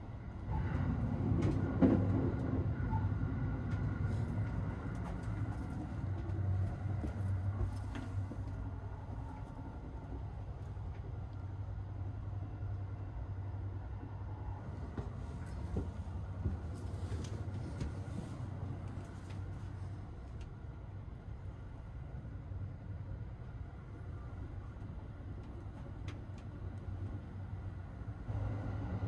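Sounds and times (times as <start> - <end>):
train rumble from inside: 0.0 - 29.0.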